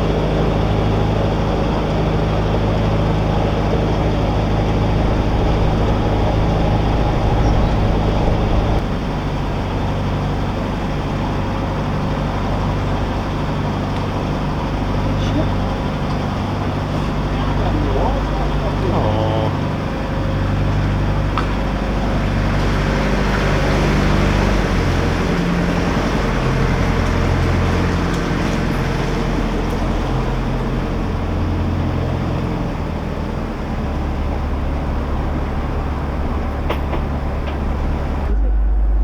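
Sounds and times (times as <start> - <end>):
boat diesel engine running: 0.0 - 39.0.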